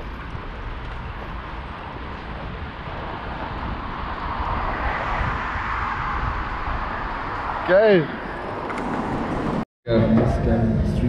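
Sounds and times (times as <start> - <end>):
riding rumble on street: 0.0 - 11.0
wind on microphone: 0.0 - 11.0.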